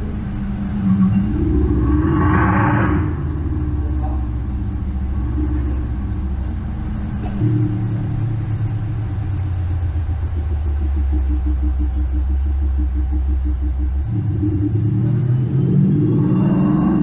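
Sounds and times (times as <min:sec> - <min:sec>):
simulated engine idle rumble: 0:00.0 - 0:17.0.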